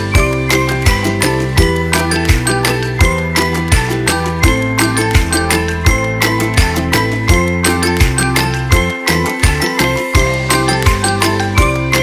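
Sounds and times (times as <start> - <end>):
upbeat music with bell-like notes: 0.0 - 12.0.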